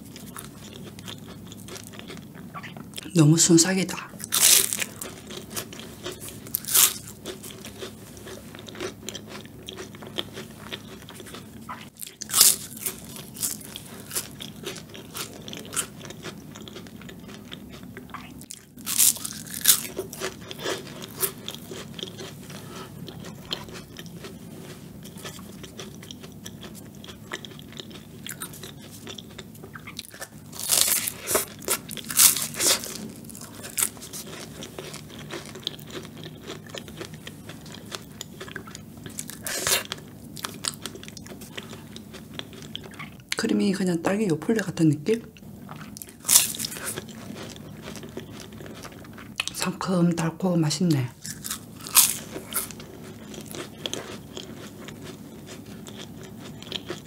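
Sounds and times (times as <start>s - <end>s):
crisp pastry crunching: 0.0s - 43.5s, 45.7s - 49.6s, 50.9s - 57.0s
soft chewing and mouth clicks: 4.0s - 43.4s, 45.3s - 49.6s, 51.2s - 57.0s.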